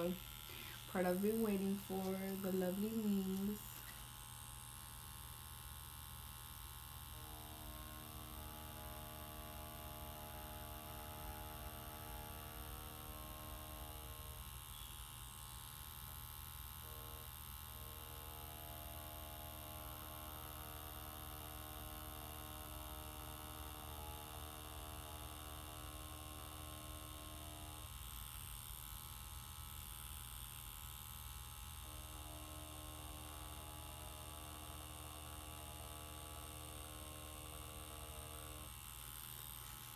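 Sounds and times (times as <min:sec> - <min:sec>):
tattoo machine buzzing: 0:00.0 - 0:39.9.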